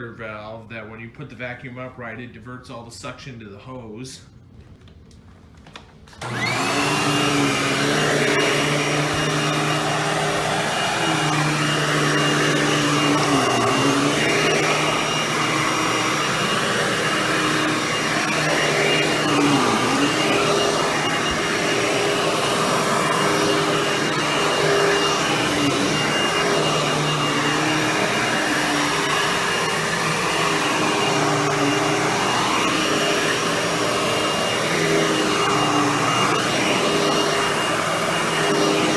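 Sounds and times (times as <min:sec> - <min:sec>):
vacuum cleaner motor whine: 0:06.1 - 0:38.9.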